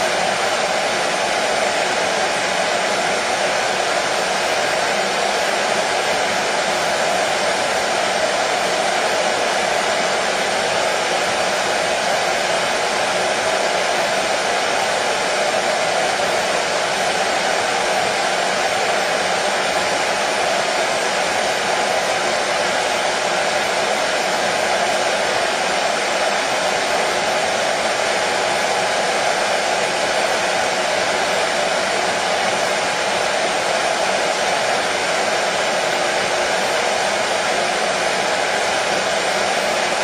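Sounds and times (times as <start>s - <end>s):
hair dryer blowing: 0.0s - 40.0s.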